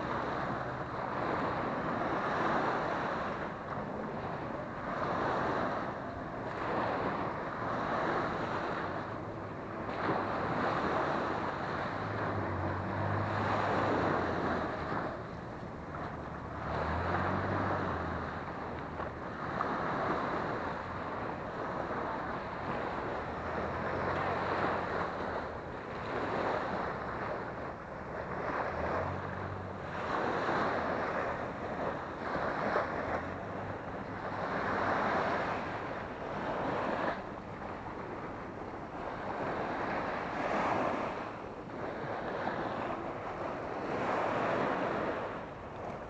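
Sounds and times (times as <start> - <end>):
small waves breaking on beach: 0.0 - 46.0.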